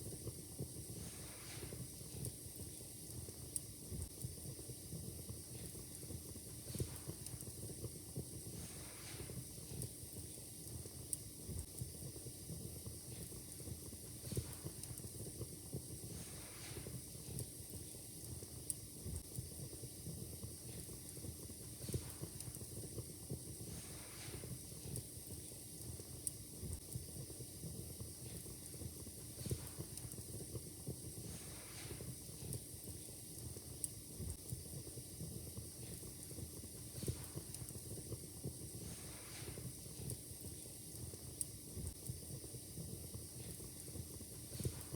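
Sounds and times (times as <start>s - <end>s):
faint hiss: 0.0s - 44.9s
wood fire crackling: 0.0s - 44.9s
fire pops and snaps: 5.3s - 44.9s.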